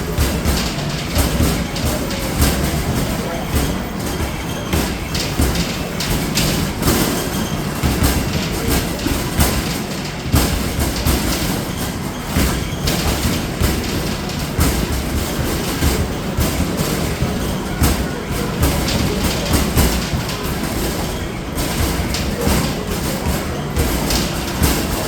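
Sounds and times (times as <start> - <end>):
basketballs hitting backboard and rim: 0.0 - 25.0.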